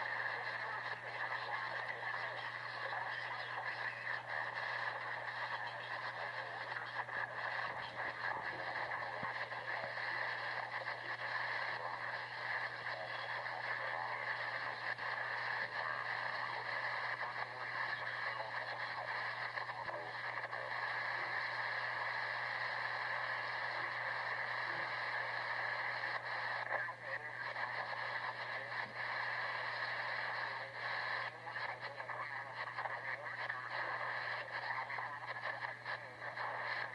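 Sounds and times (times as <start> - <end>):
faint crackles: 0.0 - 36.9
radio static and hiss: 0.0 - 36.9.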